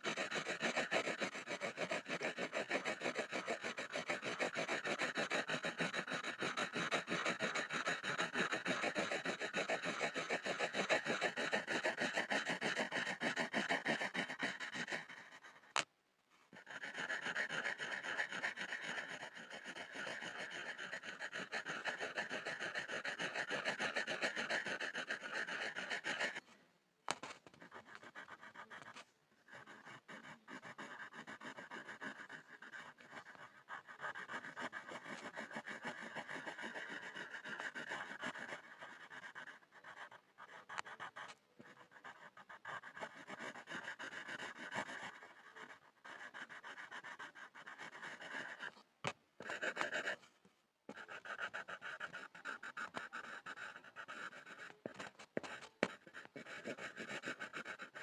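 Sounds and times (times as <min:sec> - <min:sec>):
pencil scribbling on a board: 0:00.0 - 0:15.9, 0:16.5 - 0:50.3, 0:50.9 - 0:58.0.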